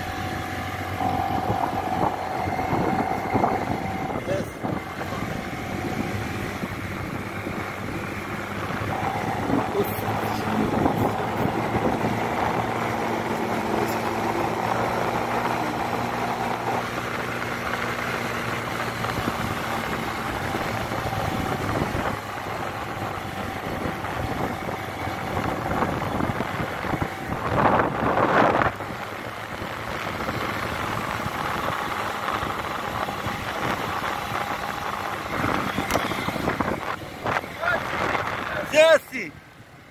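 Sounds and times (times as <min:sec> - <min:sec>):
motor scooter engine running: 0:00.0 - 0:38.6.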